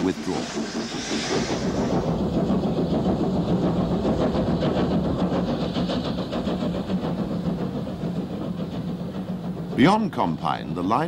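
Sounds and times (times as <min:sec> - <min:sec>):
steady low hum: 0:00.0 - 0:11.0
steam locomotive exhaust beats: 0:00.0 - 0:11.0.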